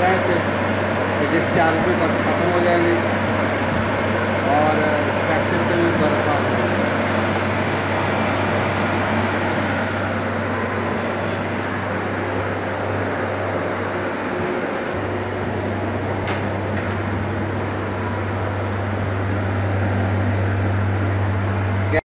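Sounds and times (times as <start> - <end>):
refrigeration unit humming: 0.0 - 22.0.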